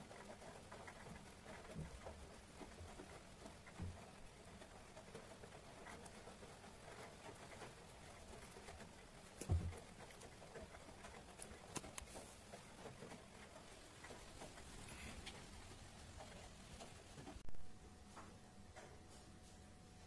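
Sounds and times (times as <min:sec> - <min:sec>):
faint clicks and ticks: 0:00.0 - 0:17.4.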